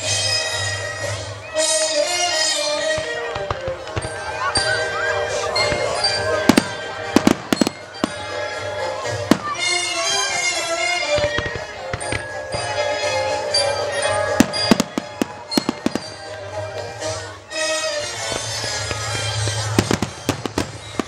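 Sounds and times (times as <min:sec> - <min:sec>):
fireworks bursting in sharp bangs: 0:00.0 - 0:21.0
music playing: 0:00.0 - 0:21.0.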